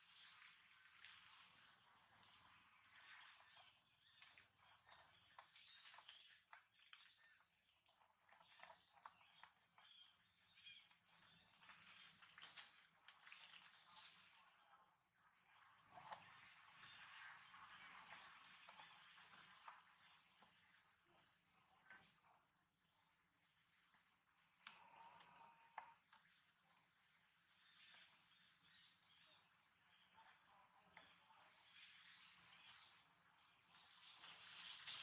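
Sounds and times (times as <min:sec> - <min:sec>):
insect chirping: 0:00.0 - 0:35.0.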